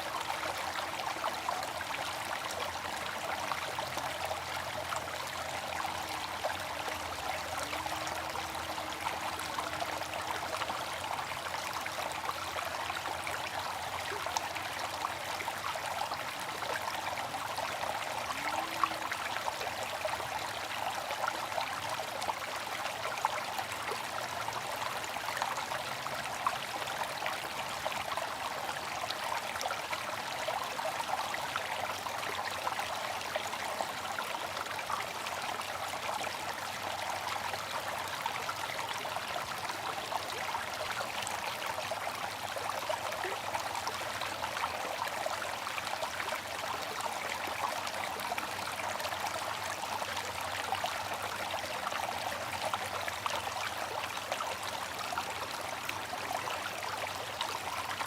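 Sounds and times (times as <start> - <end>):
bamboo fountain water trickling: 0.0 - 58.0.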